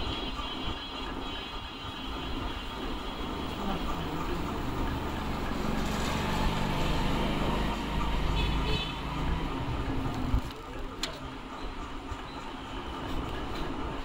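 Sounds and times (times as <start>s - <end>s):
vehicle rumble: 1.2s - 14.0s.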